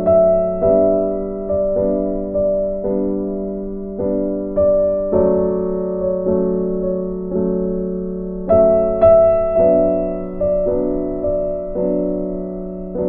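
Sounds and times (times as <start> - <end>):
keyboard melody of sustained notes: 0.0 - 13.0.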